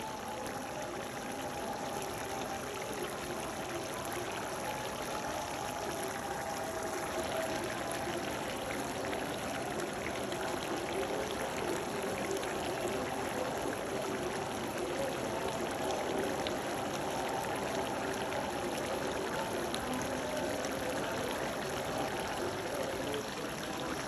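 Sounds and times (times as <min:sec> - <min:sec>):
curry bubbling in a pan: 0:00.0 - 0:24.0.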